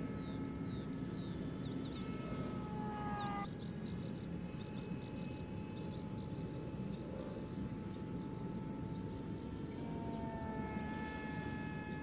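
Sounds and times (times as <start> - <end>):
model plane motor whining: 0.0 - 3.7, 4.5 - 12.0
small birds chirping: 0.0 - 11.8.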